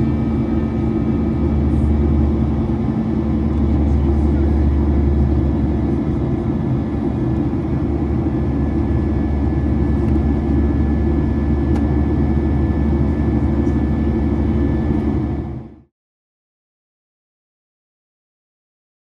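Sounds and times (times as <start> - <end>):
airliner cabin drone: 0.0 - 15.9.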